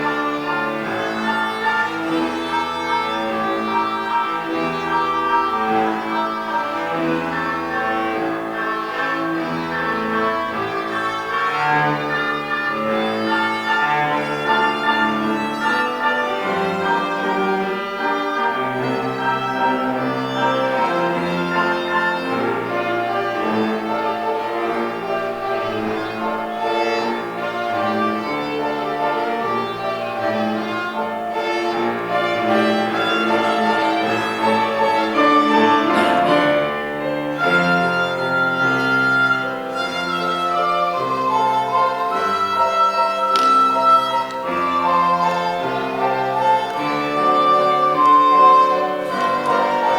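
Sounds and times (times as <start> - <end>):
violin and cello playing a waltz: 0.0 - 49.9.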